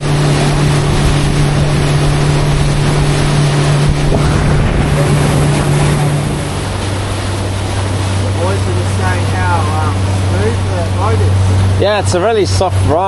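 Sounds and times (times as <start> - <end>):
motorboat engine running: 0.0 - 13.0
water noise: 0.0 - 13.0
wind buffeting microphone: 0.0 - 13.0.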